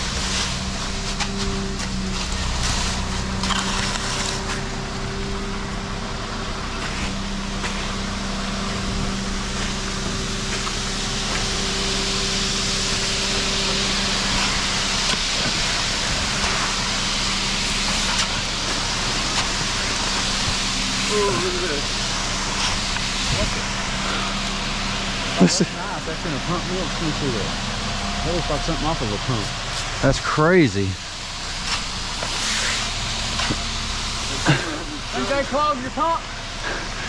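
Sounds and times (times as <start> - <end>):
concrete pouring rush: 0.0 - 37.0
diesel engine running: 0.0 - 37.0.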